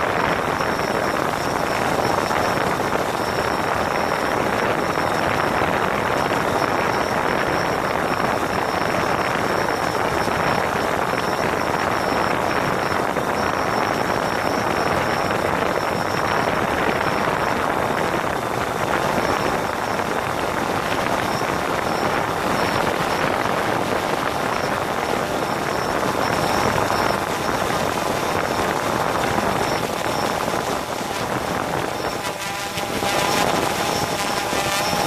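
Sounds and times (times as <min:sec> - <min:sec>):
drone motors and propellers: 0:00.0 - 0:35.0
thin high whine: 0:00.0 - 0:35.0
wind over microphone: 0:00.0 - 0:35.0.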